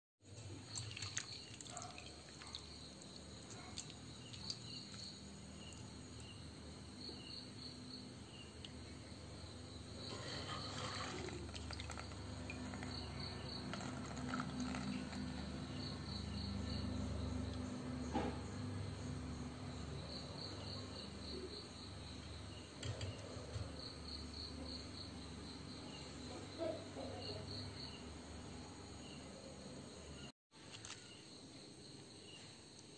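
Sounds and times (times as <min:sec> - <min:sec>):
insects chirping: 0:00.3 - 0:32.9.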